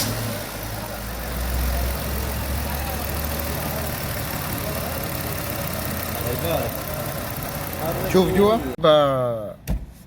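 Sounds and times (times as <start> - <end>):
petrol engine idling: 0.0 - 8.8.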